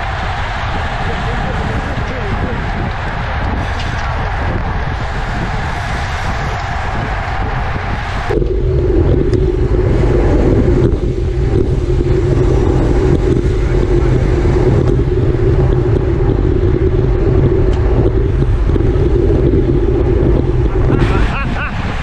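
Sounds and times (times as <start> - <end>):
road and tyre noise: 0.0 - 22.0
wind rushing over microphone: 0.0 - 22.0.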